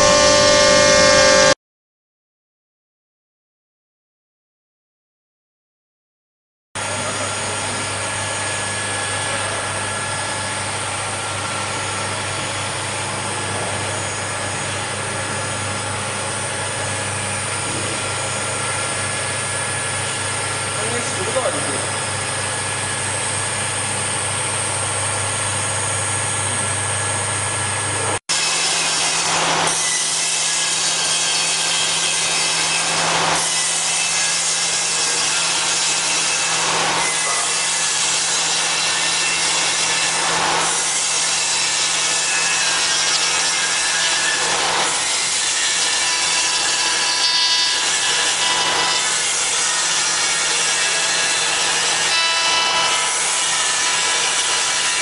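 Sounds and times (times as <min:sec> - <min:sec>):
router spindle cutting wood: 0:00.0 - 0:01.6, 0:06.8 - 0:55.0.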